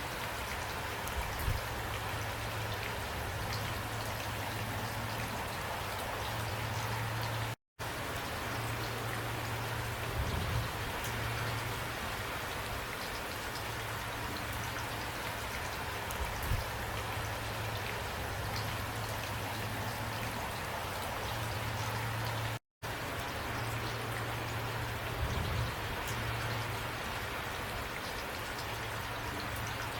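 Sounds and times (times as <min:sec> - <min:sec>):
rain falling: 0:00.0 - 0:29.9.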